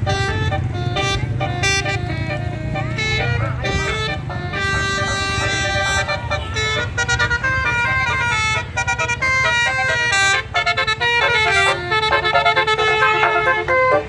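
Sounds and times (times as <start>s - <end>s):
bus engine rumble: 0.0s - 14.0s
bus musical horn melody: 0.0s - 14.0s.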